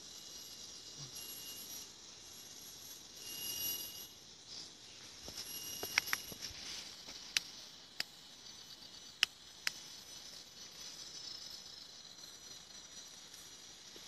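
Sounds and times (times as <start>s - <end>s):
insects calling high-pitched: 0.0s - 14.0s.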